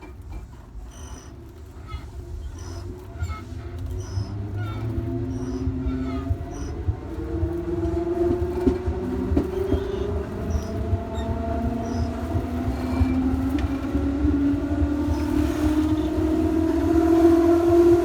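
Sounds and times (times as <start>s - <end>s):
train rolling rumble: 0.0s - 18.0s
wheels clicking on rails: 0.0s - 18.0s
train motors whining: 1.1s - 18.0s.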